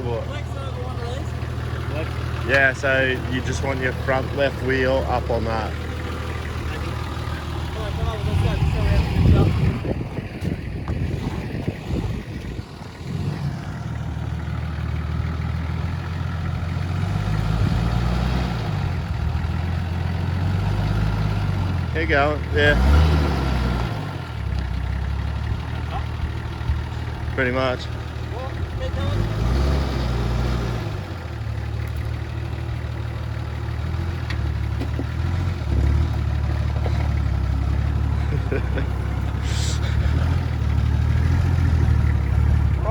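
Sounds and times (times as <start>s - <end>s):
engine running at low revs: 0.0s - 42.9s.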